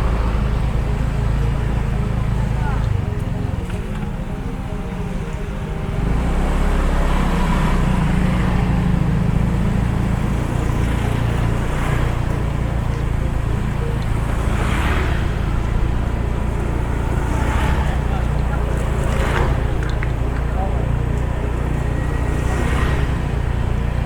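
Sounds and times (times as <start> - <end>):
passing traffic: 0.0 - 24.0
vehicle engine driving: 0.0 - 24.0.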